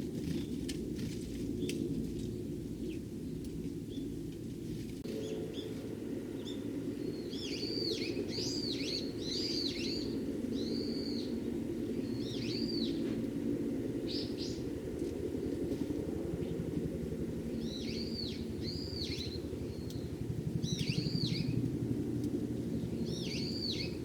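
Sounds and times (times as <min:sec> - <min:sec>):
steady low hum: 0:00.0 - 0:24.0
sparrows chirping: 0:01.5 - 0:04.2, 0:05.1 - 0:13.3, 0:13.9 - 0:14.9, 0:16.4 - 0:24.0.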